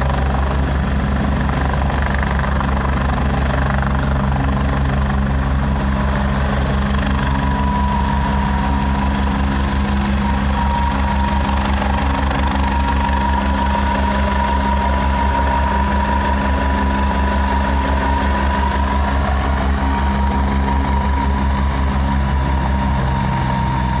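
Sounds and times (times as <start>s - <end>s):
helicopter rotor beating: 0.0s - 24.0s
high-pitched whine: 0.0s - 24.0s.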